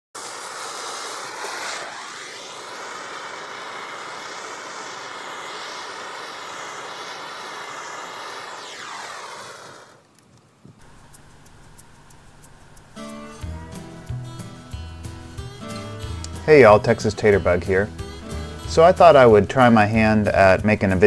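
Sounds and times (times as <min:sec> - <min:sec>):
gas torch flame hissing: 0:00.1 - 0:21.0.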